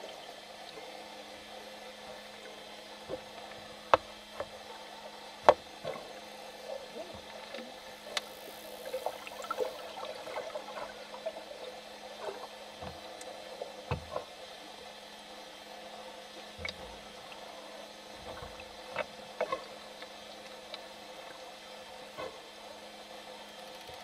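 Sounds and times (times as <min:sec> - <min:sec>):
steady low underwater hum: 0:00.0 - 0:24.0.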